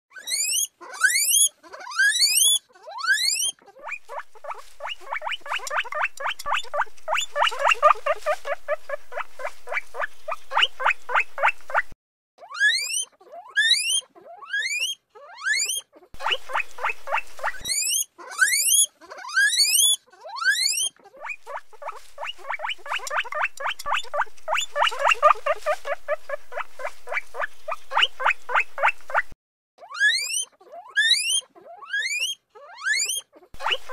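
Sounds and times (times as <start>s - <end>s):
guinea pig squeaking: 0.1s - 33.9s.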